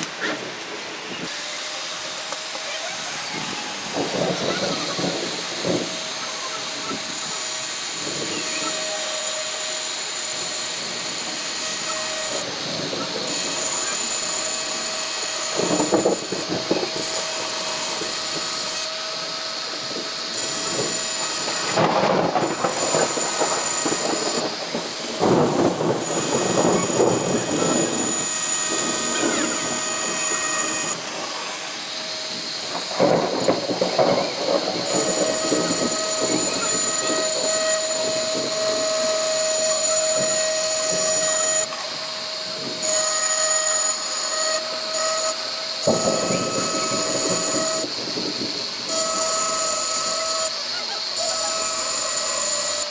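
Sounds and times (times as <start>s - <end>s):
steady rain: 0.0s - 52.9s
engraving pen whining on glass: 1.2s - 52.9s.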